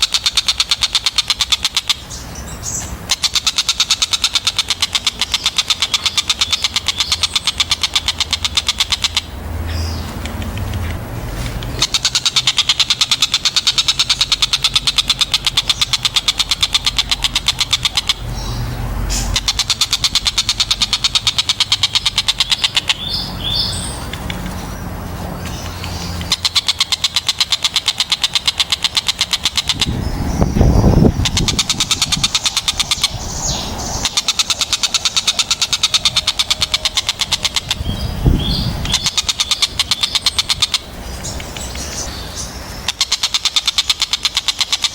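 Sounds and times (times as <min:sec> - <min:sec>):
kingfisher rattling chatter: 0:00.0 - 0:02.3, 0:03.0 - 0:09.4, 0:11.6 - 0:38.1, 0:42.8 - 0:44.9.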